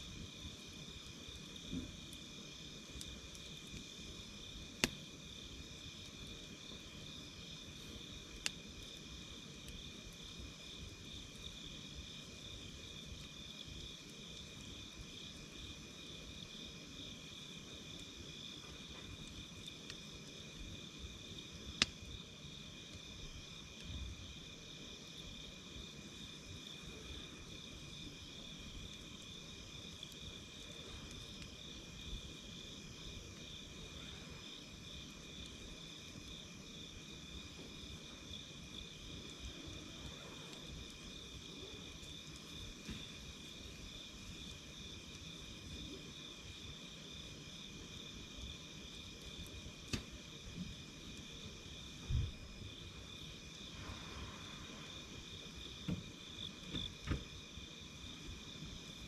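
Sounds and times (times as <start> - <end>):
campfire crackling: 0.0 - 59.0
night insects chorus: 0.0 - 59.0.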